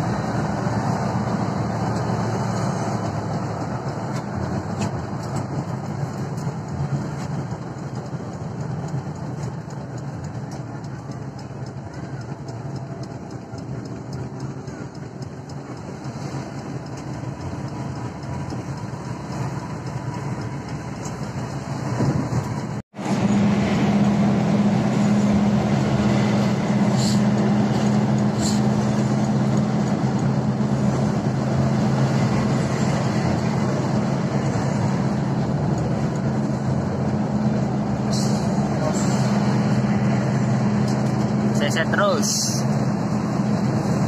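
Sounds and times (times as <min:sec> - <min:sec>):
bus engine drone: 0:00.0 - 0:44.0
road noise: 0:00.0 - 0:44.0.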